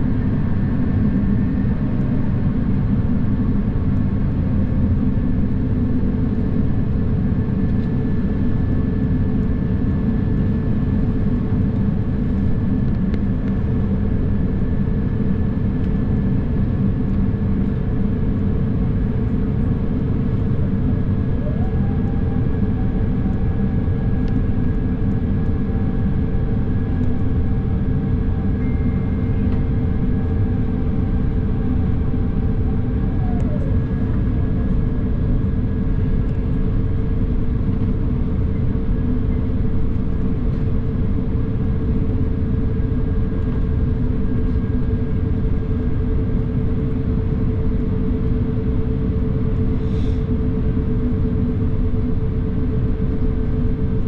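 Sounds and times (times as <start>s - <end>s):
aircraft engines and airflow rumble: 0.0s - 54.0s.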